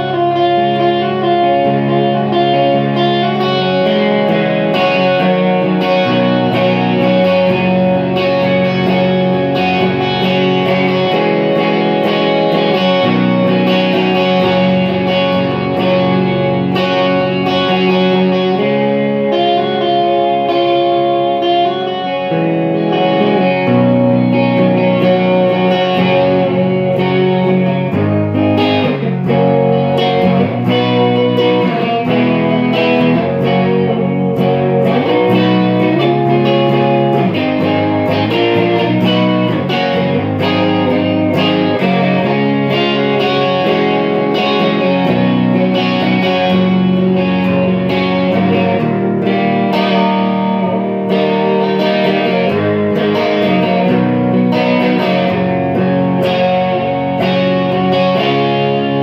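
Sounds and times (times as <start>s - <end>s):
electric guitar chords and notes: 0.0s - 59.0s.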